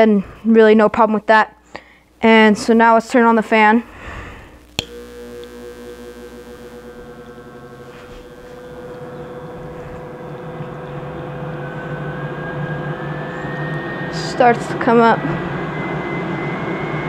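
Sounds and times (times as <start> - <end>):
duct fan humming and whining: 0.0 - 17.0.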